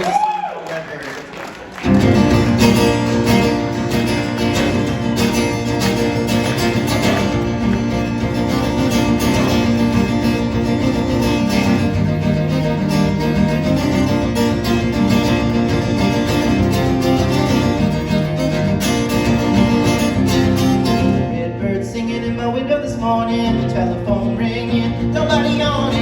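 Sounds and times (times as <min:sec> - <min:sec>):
live band playing folk music: 0:01.8 - 0:26.0
strummed acoustic guitar: 0:01.8 - 0:26.0.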